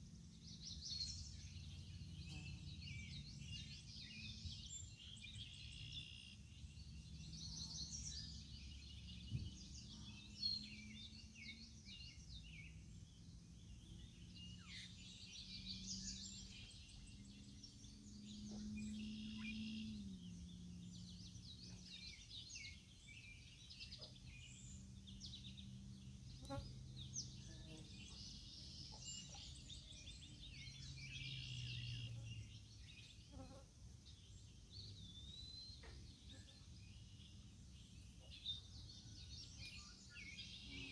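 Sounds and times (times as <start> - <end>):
faint low hum: 0.0 - 40.9
songbirds chirping and trilling: 0.0 - 40.9.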